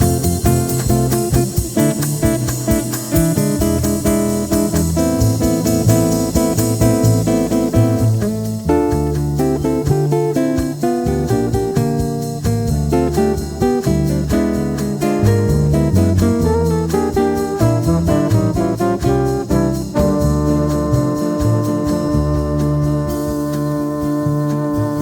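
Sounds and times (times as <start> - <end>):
bass line: 0.0 - 25.0
plucked guitar: 0.0 - 25.0
steady beat: 0.0 - 25.0
sustained keyboard chords: 0.0 - 25.0.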